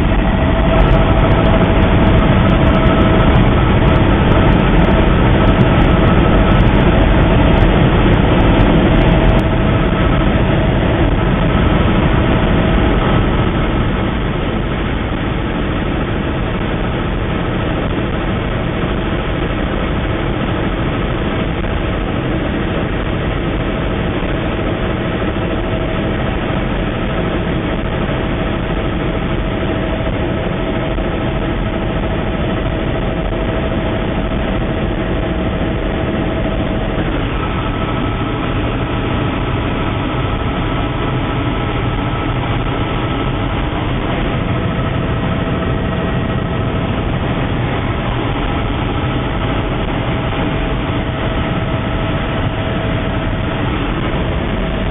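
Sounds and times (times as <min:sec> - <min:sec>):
heavy engine drone with whine: 0:00.0 - 0:54.9.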